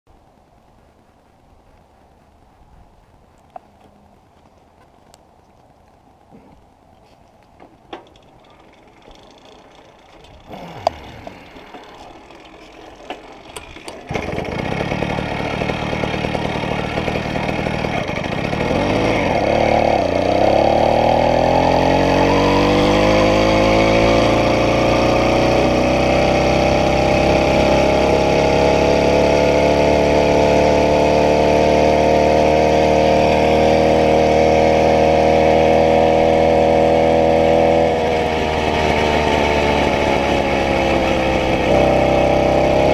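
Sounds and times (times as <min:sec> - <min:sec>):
small engine starting and revving: 0:08.0 - 0:42.9.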